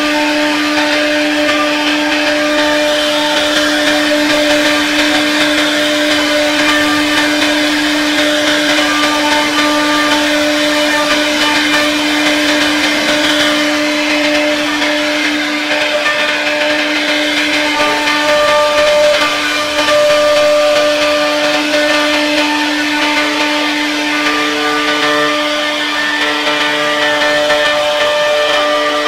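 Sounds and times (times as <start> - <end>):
cutter hissing in wood: 0.0 - 29.0
router spindle motor whine: 0.0 - 29.0.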